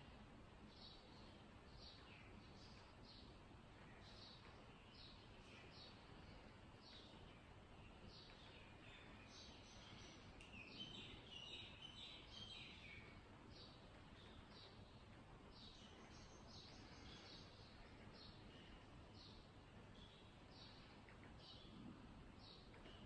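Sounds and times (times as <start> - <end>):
background hiss: 0.0 - 23.0
bird chirping: 0.7 - 23.0.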